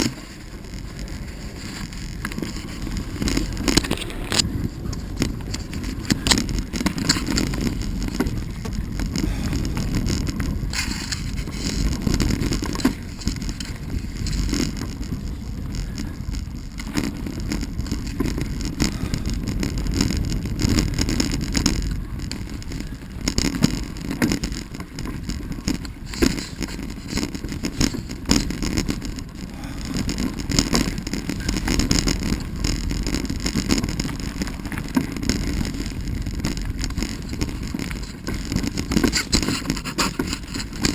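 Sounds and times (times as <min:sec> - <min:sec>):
wheels rolling over dirt trail: 0:00.0 - 0:40.9.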